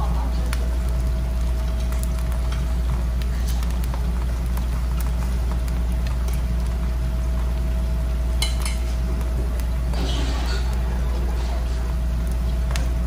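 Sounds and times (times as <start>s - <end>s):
batter sizzling in a frying pan: 0.0s - 13.0s
sharp crackles: 0.0s - 13.0s.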